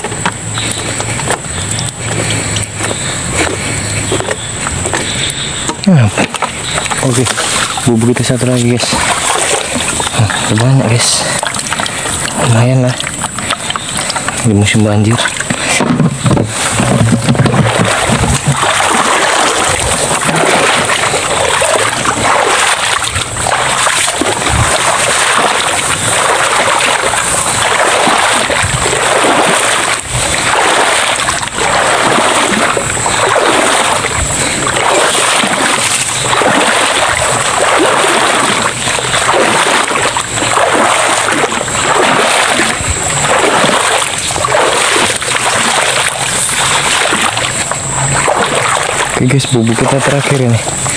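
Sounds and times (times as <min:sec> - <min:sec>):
footsteps sloshing through water: 0:00.0 - 0:50.9.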